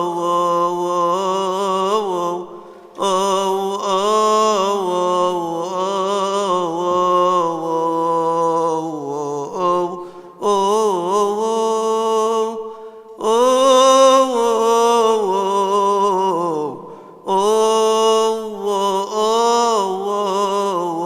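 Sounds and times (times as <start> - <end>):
man chanting a hymn: 0.0 - 21.0.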